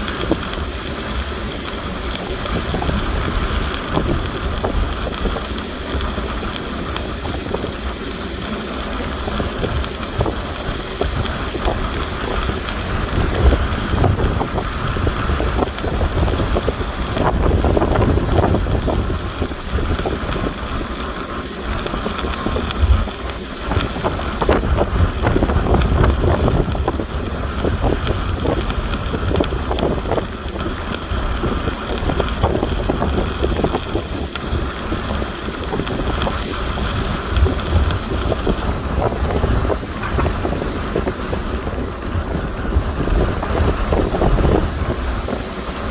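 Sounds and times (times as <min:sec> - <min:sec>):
welding arc crackling: 0:00.0 - 0:45.9.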